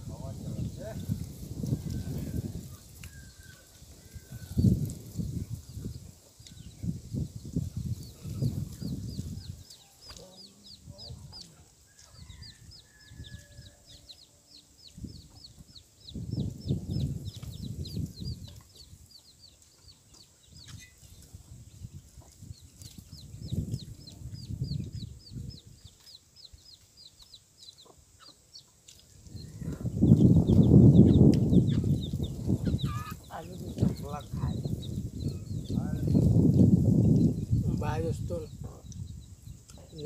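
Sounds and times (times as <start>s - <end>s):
chickens clucking: 0.2s - 37.5s.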